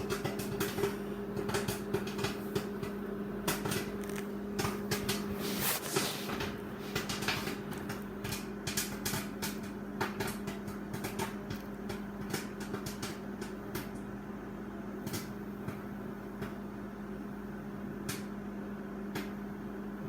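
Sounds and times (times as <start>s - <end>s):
microwave oven humming: 0.0s - 20.0s
popcorn popping: 0.0s - 20.0s.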